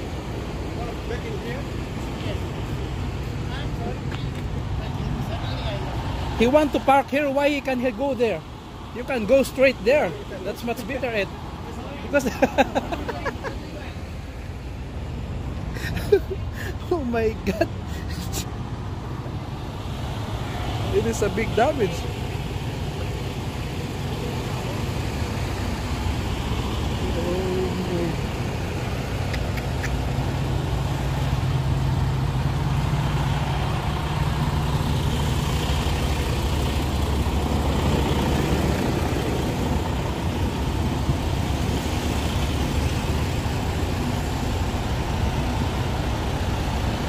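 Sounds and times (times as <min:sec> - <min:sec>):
diesel truck engines idling: 0:00.0 - 0:47.0.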